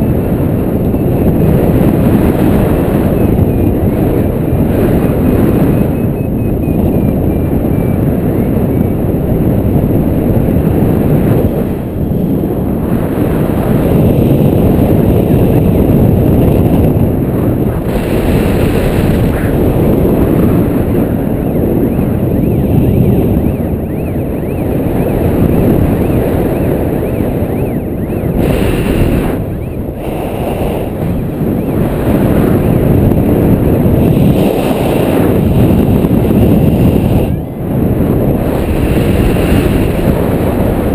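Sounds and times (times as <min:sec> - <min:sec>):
loud wind noise on microphone: 0:00.0 - 0:40.9.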